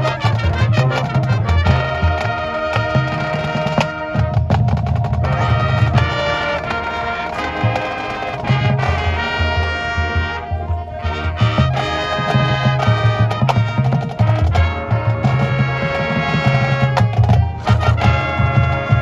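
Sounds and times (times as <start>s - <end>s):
brass section: 0.0s - 19.0s
drums: 0.0s - 19.0s.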